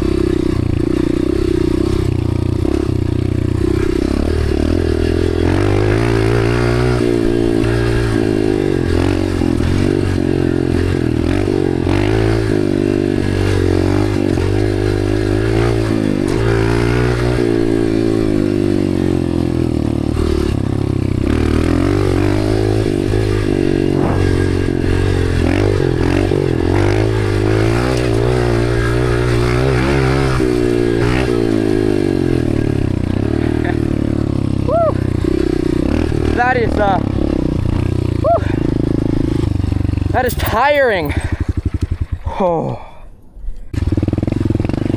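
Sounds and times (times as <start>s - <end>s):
dirt bike engine revving: 0.0s - 42.6s, 43.8s - 44.9s.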